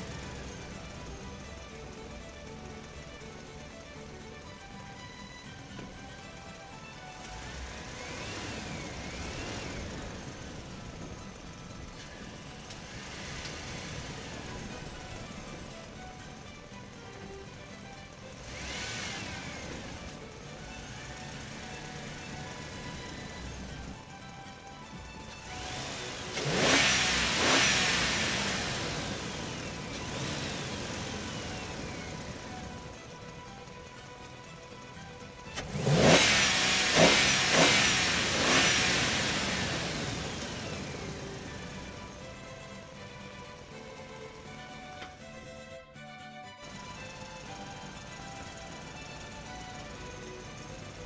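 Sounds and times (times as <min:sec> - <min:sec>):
background music: 0:00.0 - 0:51.0
toy truck electric motor whining: 0:00.0 - 0:51.0.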